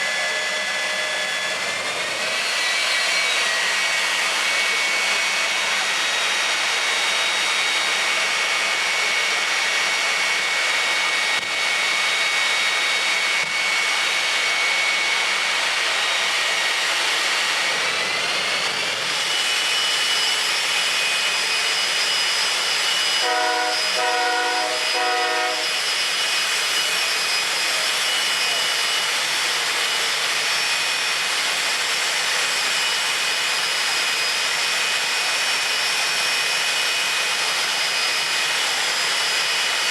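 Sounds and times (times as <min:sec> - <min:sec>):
jet engine rushing and whining: 0:00.0 - 0:39.9.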